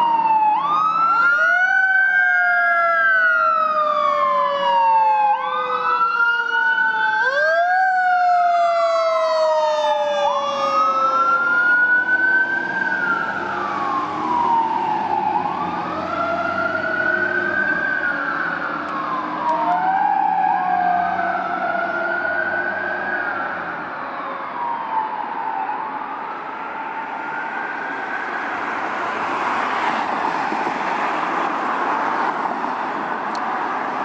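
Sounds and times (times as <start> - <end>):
fire truck sirens wailing: 0.0 - 34.0
truck engines and traffic rumbling: 0.0 - 34.0.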